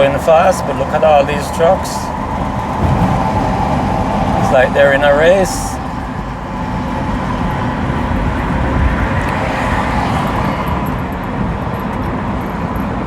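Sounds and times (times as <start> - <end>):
wind hiss: 0.0 - 11.5
trucks passing at speed: 0.0 - 13.0
tyre and engine rumble: 0.0 - 13.0.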